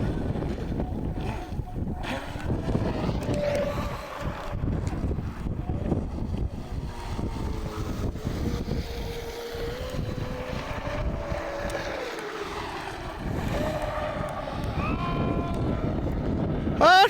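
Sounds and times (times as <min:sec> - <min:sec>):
toy boat electric motor whining: 0:00.0 - 0:17.0
wind buffeting microphone: 0:00.0 - 0:17.0.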